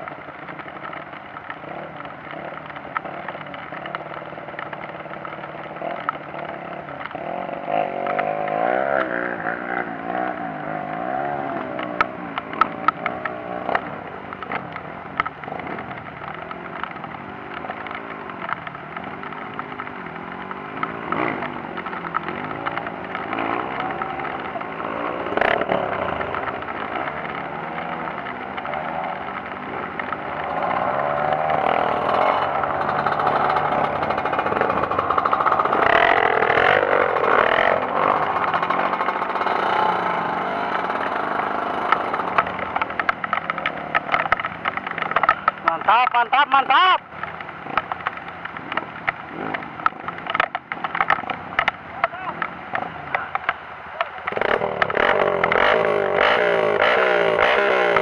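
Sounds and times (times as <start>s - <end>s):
dirt bike engine revving: 1.6s - 47.0s, 54.1s - 58.0s.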